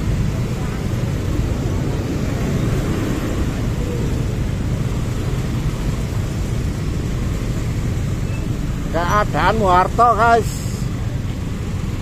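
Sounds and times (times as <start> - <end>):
traffic engine and road rumble: 0.0 - 12.0.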